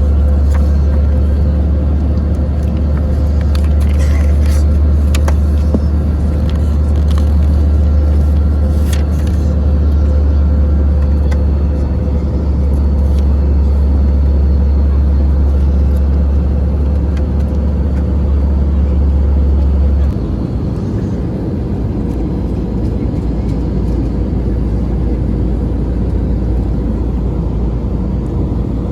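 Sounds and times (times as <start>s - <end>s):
airliner cabin engine rumble: 0.0s - 28.9s.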